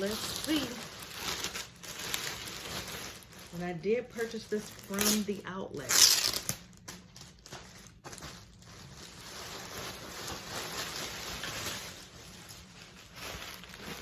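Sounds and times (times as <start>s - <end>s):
wrapping rustling: 0.0s - 14.0s.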